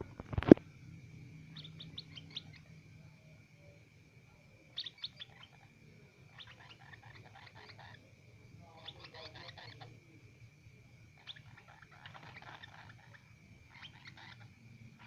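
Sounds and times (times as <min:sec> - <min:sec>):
bird chirping: 0:01.2 - 0:10.2, 0:11.1 - 0:15.0.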